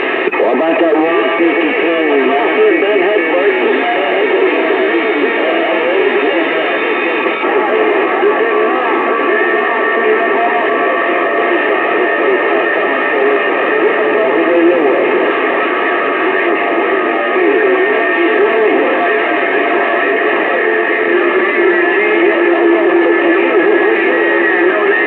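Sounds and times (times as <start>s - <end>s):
music with singing through radio: 0.0s - 25.0s.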